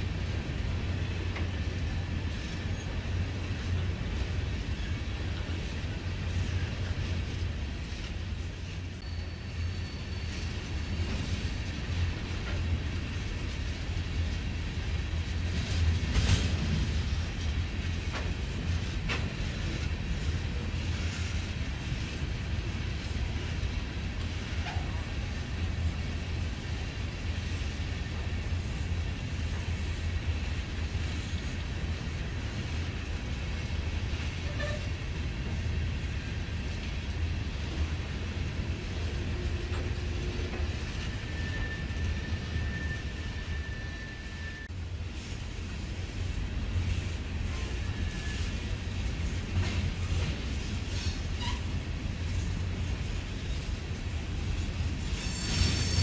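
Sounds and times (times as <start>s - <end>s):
rail cars rumbling past: 0.0s - 56.0s.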